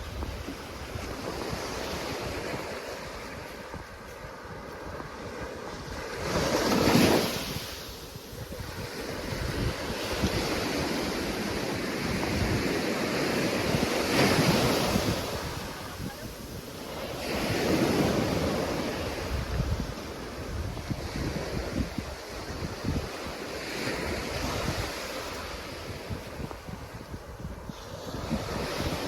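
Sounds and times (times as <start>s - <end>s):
waves breaking on beach: 0.0s - 29.0s
wind buffeting microphone: 0.0s - 29.0s.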